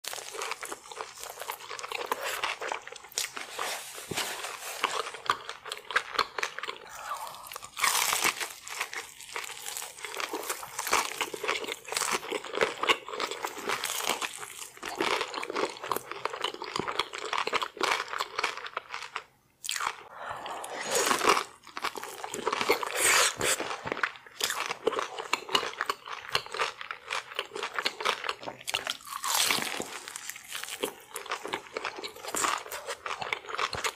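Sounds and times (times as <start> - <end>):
crunching and chewing fried food: 0.0 - 33.9.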